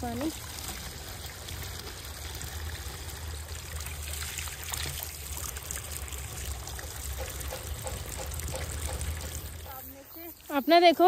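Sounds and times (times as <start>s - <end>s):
water filling plastic bottle: 0.0s - 9.8s
water splashing onto stones: 0.0s - 10.5s.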